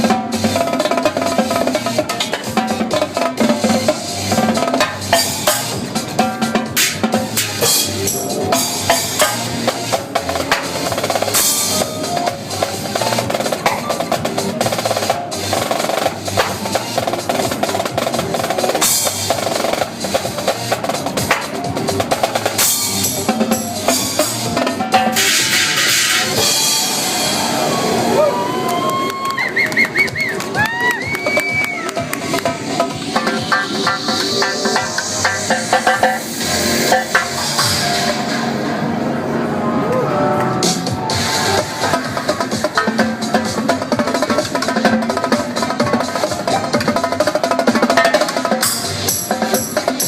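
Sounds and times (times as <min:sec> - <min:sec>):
live drumming: 0:00.0 - 0:28.3, 0:29.1 - 0:38.6, 0:40.5 - 0:50.0
dance music track: 0:00.0 - 0:50.0.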